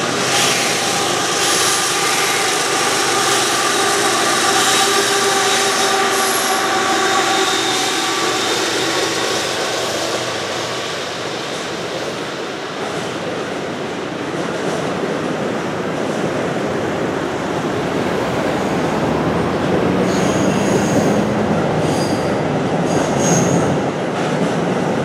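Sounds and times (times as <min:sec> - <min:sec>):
freight train wheel rumble: 0:00.0 - 0:25.0.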